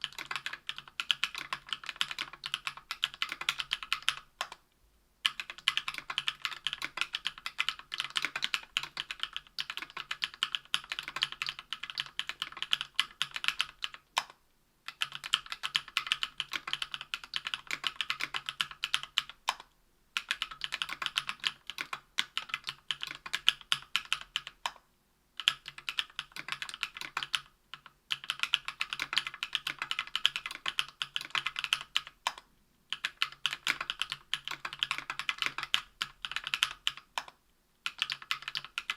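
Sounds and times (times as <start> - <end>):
keyboard typing: 0.0 - 4.6, 5.2 - 24.8, 25.4 - 38.9.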